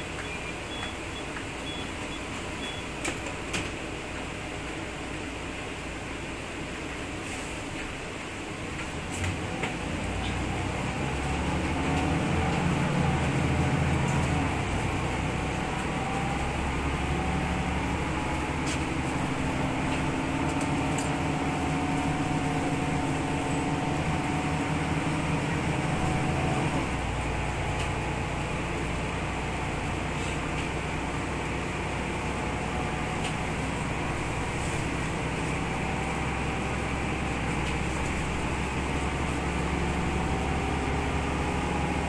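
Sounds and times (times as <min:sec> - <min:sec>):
bus diesel engine running: 0:00.0 - 0:42.0.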